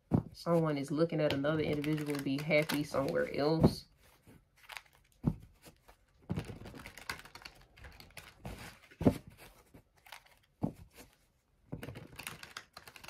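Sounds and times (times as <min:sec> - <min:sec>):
cards being shuffled: 0:01.3 - 0:13.0.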